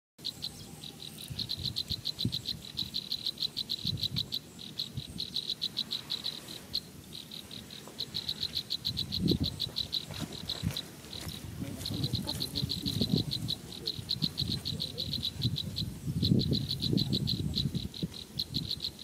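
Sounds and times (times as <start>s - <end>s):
insect chirping: 0.2s - 19.0s.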